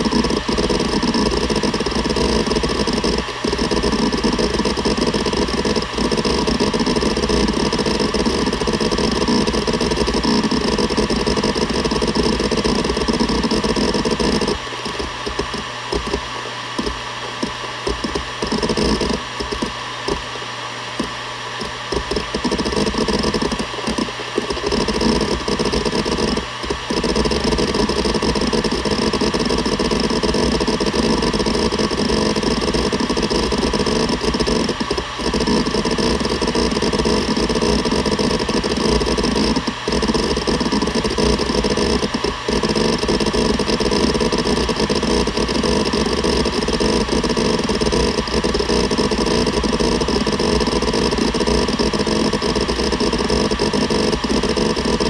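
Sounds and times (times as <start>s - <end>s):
hard drive heads seeking clatter: 0.0s - 55.0s
hard drive spinning whine: 0.0s - 55.0s.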